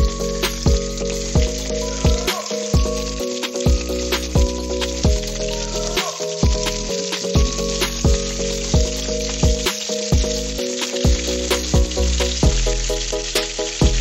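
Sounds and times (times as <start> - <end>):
background music with beat: 0.0 - 14.0
meat sizzling in hot oil: 0.0 - 14.0.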